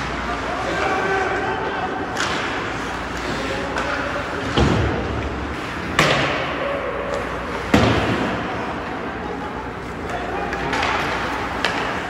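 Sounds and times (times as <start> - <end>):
hockey puck and sticks banging boards: 0.0 - 9.0, 9.8 - 12.0
rink background noise: 0.0 - 12.0.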